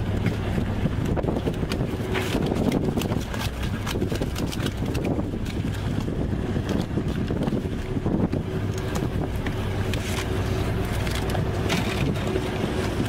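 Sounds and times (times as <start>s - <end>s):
boat engine running: 0.0s - 13.0s
wind on microphone: 0.0s - 13.0s.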